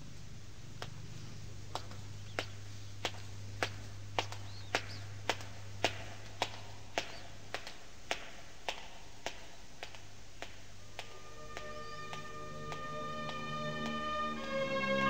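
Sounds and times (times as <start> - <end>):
low steady hum: 0.0 - 15.0
footsteps: 0.8 - 15.0.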